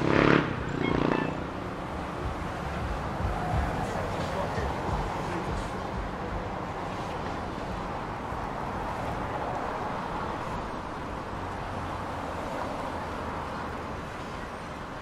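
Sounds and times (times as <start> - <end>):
light vehicle traffic: 0.0 - 15.0.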